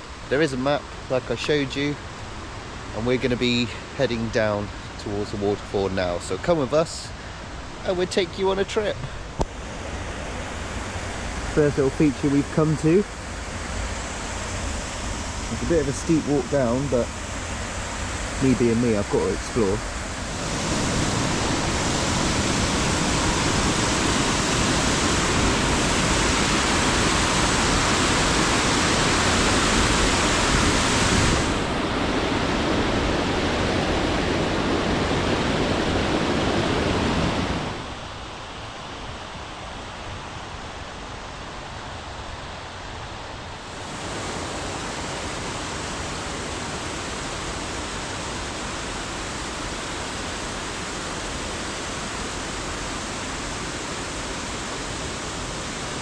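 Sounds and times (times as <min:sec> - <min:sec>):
stream water rushing over cascade: 0:00.0 - 0:56.0.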